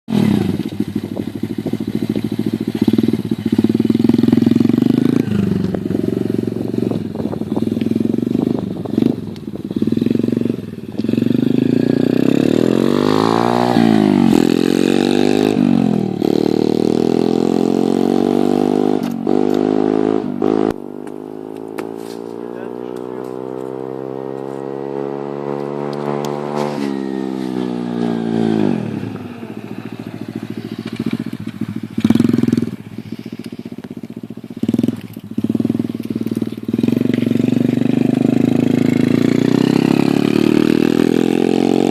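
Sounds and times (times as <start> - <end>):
dirt bike engine revving: 0.1 - 33.7, 34.4 - 41.9.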